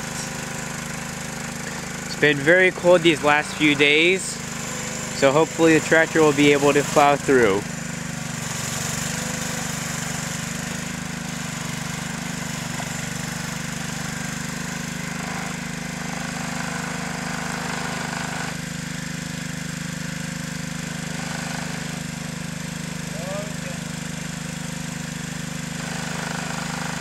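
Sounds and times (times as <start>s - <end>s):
small tractor engine running: 0.0s - 27.0s.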